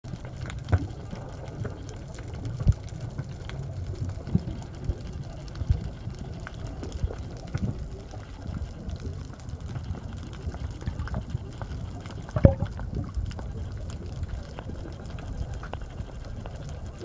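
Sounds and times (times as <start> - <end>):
underwater rumble of moving water: 0.0 - 17.0.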